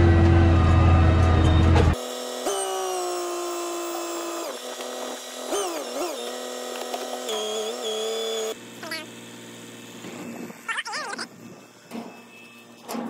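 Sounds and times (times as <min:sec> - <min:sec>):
hydraulic mechanical whine: 0:00.0 - 0:13.0.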